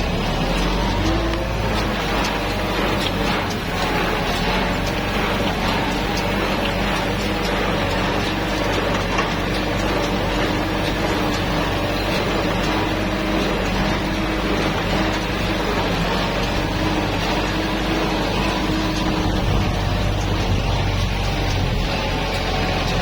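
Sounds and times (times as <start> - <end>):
tractor diesel engine droning: 0.0 - 23.0.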